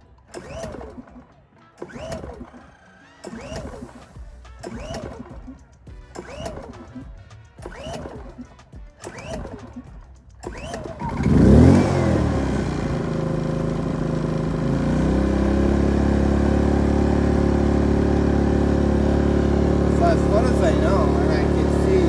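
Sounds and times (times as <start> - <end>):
generator engine running: 0.0 - 2.6, 3.2 - 22.0
recoil cord pulls whirring: 0.0 - 5.6, 6.2 - 22.0.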